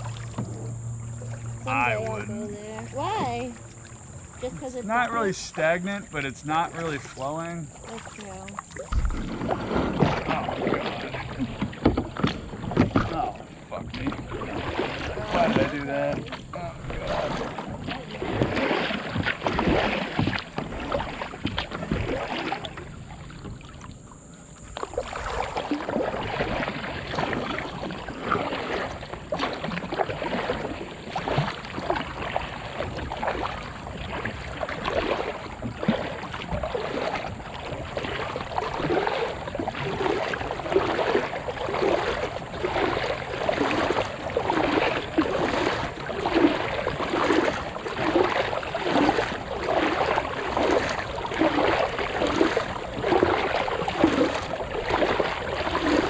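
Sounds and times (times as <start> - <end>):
kayak paddle splashing in water: 0.0 - 56.0.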